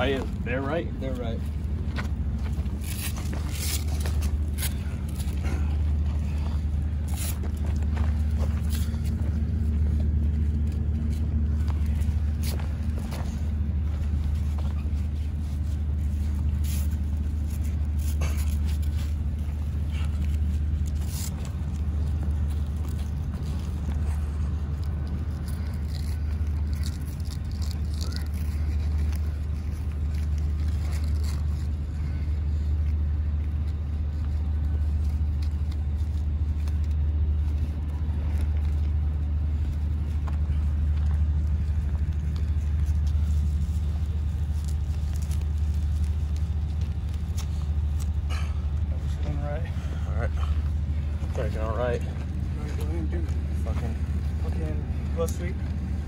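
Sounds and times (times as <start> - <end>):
low machinery drone: 0.0 - 56.0
clicks and scrapes of gear: 2.4 - 13.6, 14.3 - 48.8.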